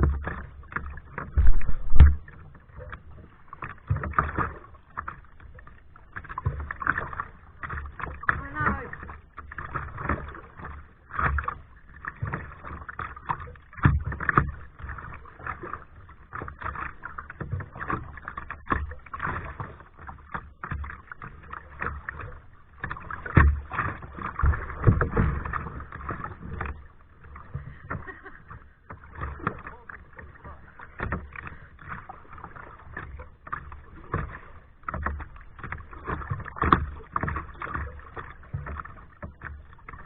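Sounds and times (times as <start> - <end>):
paddle splashing in water: 0.0 - 40.0.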